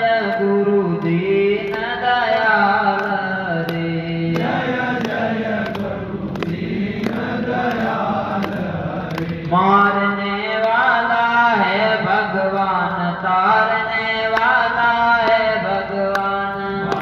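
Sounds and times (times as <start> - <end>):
devotional singing voices: 0.0 - 17.0.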